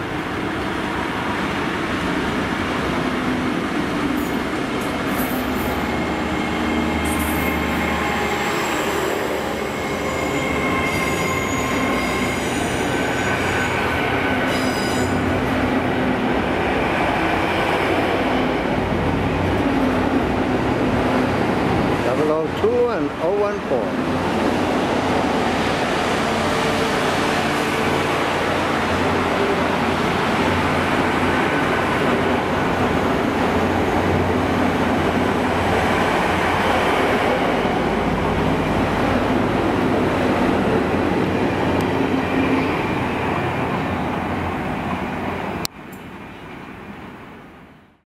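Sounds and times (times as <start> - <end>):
train rumbling on rails: 0.0 - 48.0.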